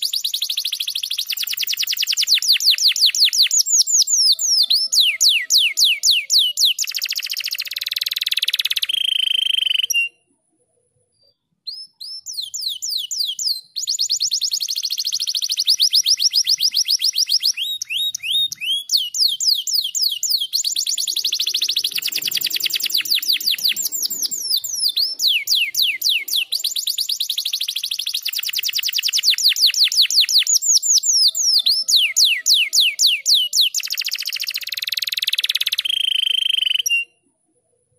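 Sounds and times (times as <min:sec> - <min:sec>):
canary singing trills: 0:00.0 - 0:10.3, 0:11.2 - 0:37.2.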